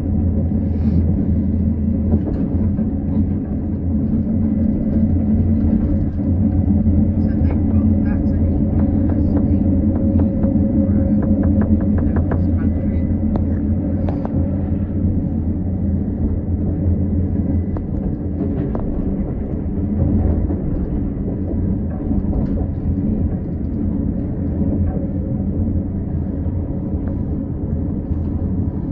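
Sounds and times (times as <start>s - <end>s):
train rumbling inside carriage: 0.0s - 28.9s.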